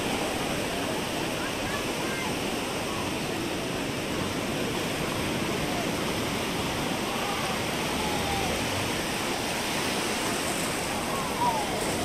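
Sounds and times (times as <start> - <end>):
surf on a sandy beach: 0.0 - 12.0.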